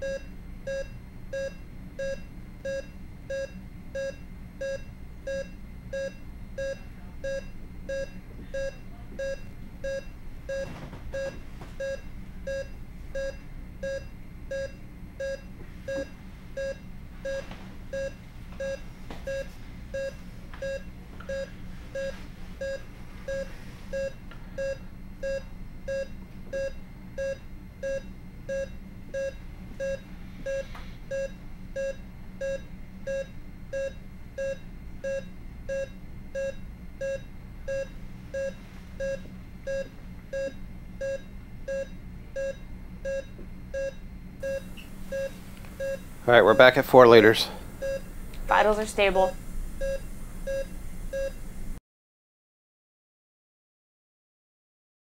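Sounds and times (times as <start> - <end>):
medical alarm beeping: 0.0 - 51.5.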